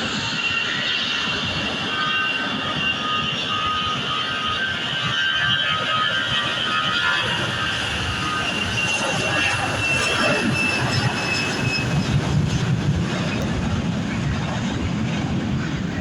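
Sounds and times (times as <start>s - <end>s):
jet engines at take-off power: 0.0s - 16.0s.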